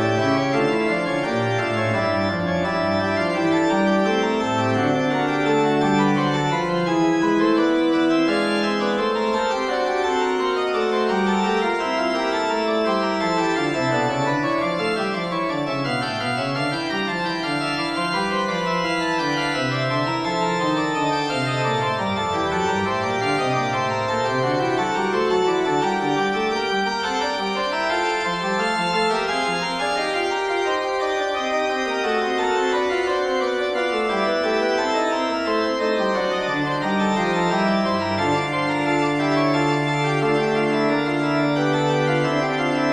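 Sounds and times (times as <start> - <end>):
organ music: 0.0 - 42.9.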